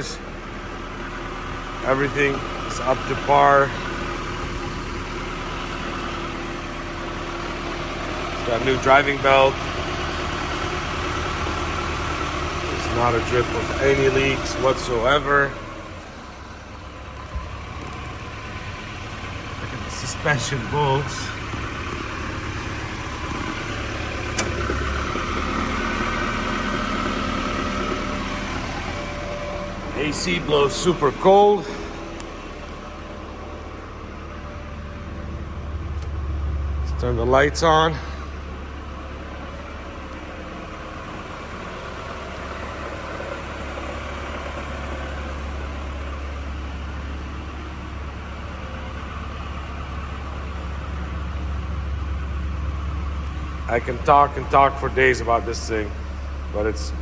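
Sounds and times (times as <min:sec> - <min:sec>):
pickup engine idling: 0:00.0 - 0:57.0.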